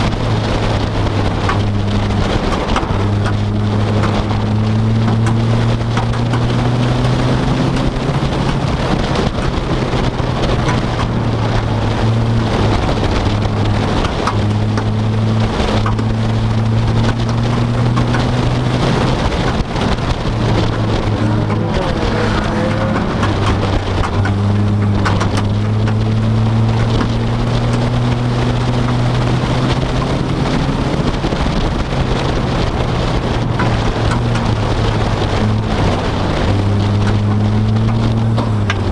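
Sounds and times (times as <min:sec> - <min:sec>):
constant crackling noise: 0:00.0 - 0:38.9
vehicle engine droning: 0:00.0 - 0:38.9.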